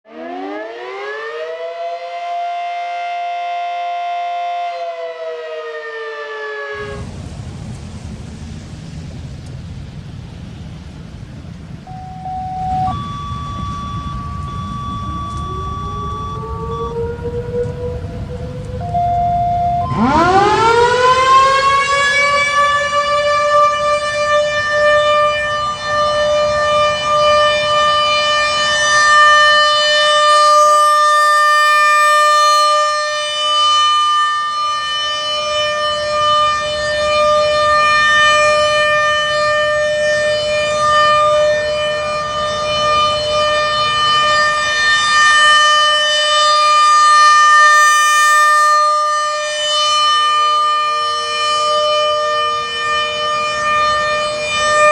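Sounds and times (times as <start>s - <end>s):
warning siren winding up: 0.1s - 7.0s, 11.9s - 54.9s
second siren lower tone: 0.1s - 7.1s, 11.8s - 54.9s.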